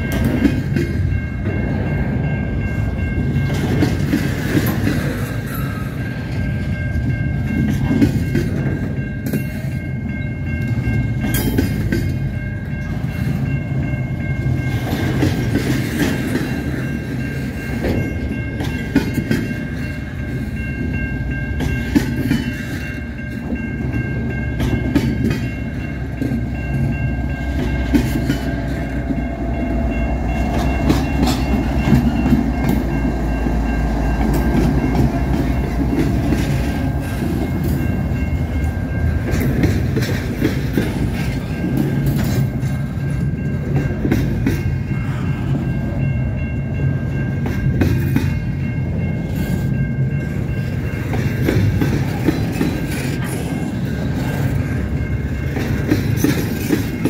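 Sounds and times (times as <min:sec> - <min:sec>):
train wheels clicking over rail joints: 0:00.0 - 0:09.8, 0:10.4 - 0:45.6, 0:47.0 - 0:57.0
deep train rumble: 0:00.0 - 0:57.0
high-pitched ringing of wheels on rail: 0:00.0 - 0:57.0.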